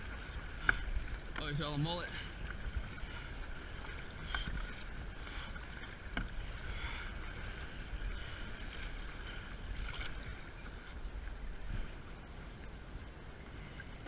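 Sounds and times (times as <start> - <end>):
paddle splashing in water: 0.0 - 12.7
wind rumble on microphone: 0.0 - 14.0.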